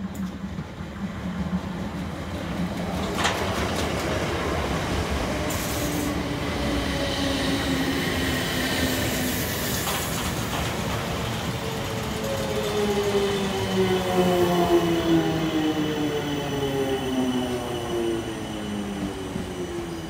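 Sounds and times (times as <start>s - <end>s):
faint train whine: 0.0s - 20.0s
train wheels rumbling on rails: 0.0s - 20.0s.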